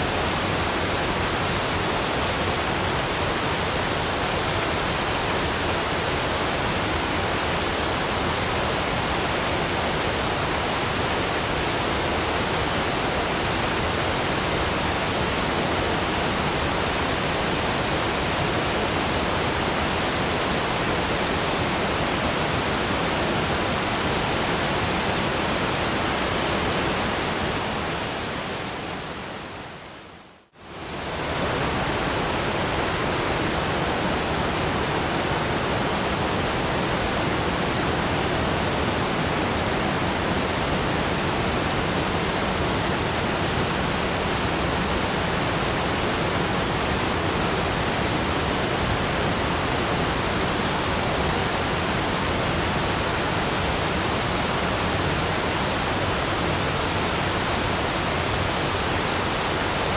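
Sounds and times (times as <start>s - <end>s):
steady noise hiss: 0.0s - 59.9s.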